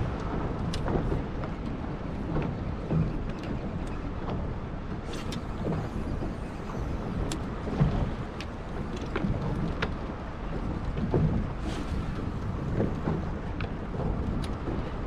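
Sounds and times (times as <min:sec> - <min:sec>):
waves slapping against boat hull: 0:00.0 - 0:15.0
wind rumbling on microphone: 0:00.0 - 0:15.0.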